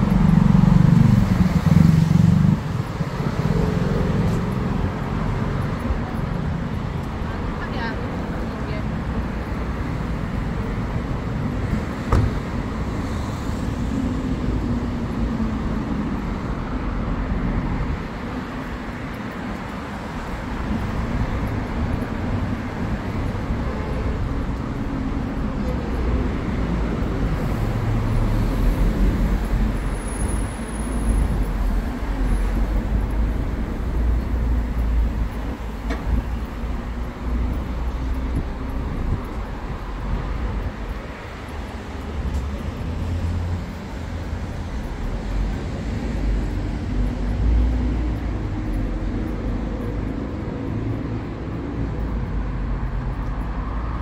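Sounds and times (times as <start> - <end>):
passing cars: 0.0 - 54.0.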